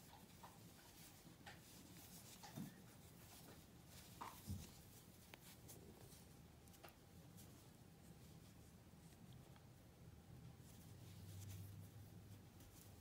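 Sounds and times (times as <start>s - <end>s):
crochet hook and yarn rustling: 0.0s - 13.0s.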